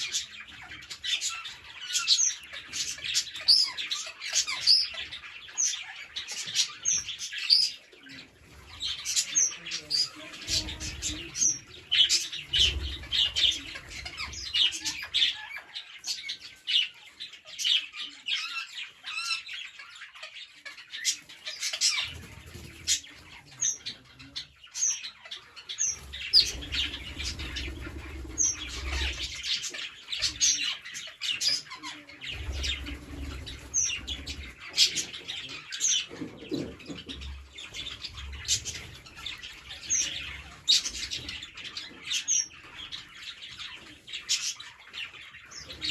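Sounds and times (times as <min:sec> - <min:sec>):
parrots chirping and squawking: 0:00.0 - 0:45.9.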